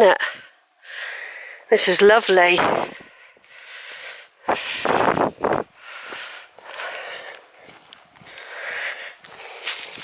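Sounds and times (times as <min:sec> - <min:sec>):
person breathing: 0:00.3 - 0:01.7, 0:02.8 - 0:10.0.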